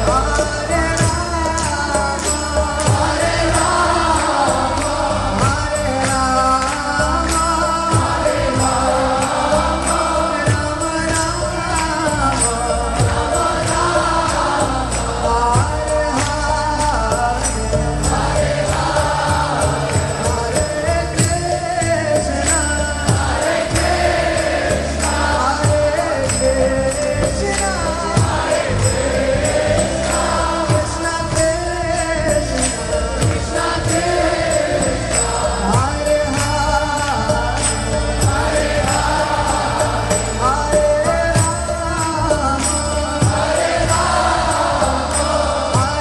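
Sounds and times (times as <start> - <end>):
drum beats: 0.0 - 46.0
group voices singing: 2.7 - 16.3, 17.3 - 41.2, 42.2 - 46.0.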